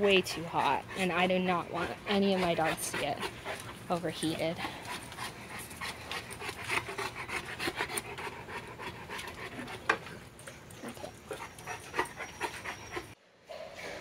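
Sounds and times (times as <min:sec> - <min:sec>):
dog panting hard: 0:00.0 - 0:10.2, 0:10.8 - 0:13.2.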